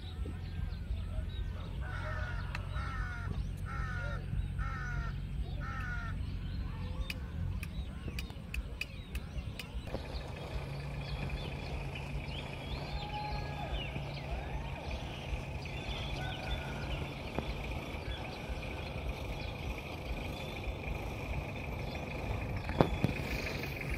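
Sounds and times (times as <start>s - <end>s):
bird chirps: 0.0s - 23.9s
low hum: 0.0s - 23.9s.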